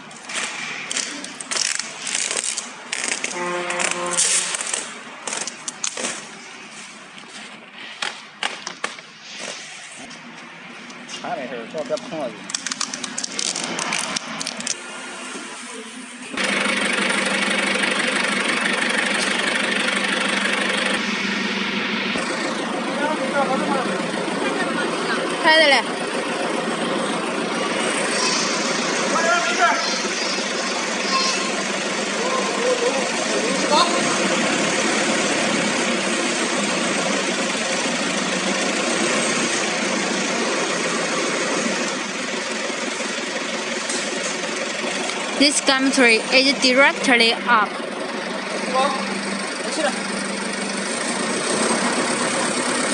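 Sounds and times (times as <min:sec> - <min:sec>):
machine droning: 0:00.0 - 0:06.4, 0:12.8 - 0:52.9.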